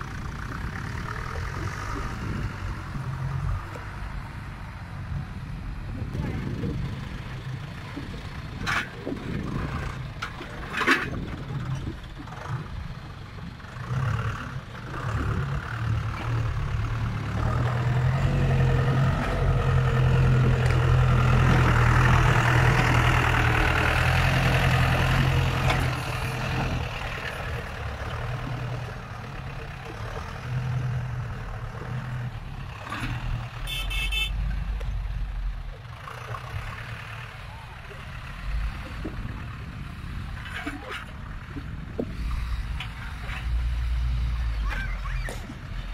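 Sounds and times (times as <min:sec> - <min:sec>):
heavy diesel engines droning: 0:00.0 - 0:45.9.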